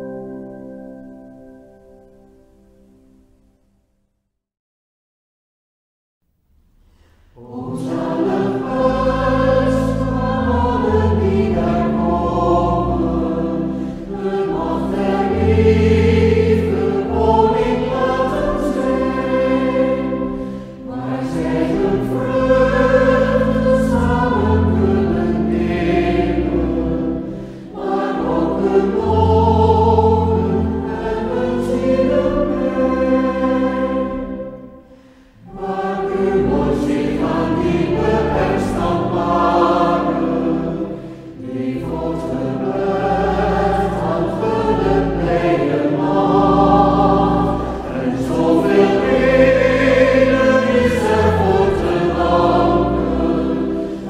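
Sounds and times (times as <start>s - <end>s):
choir singing: 7.4s - 54.0s.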